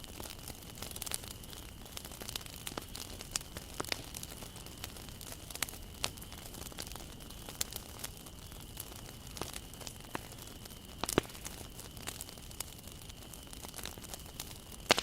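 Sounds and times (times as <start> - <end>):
bonfire crackling and popping: 0.0 - 15.0
low rumble and hiss of fire: 0.0 - 15.0.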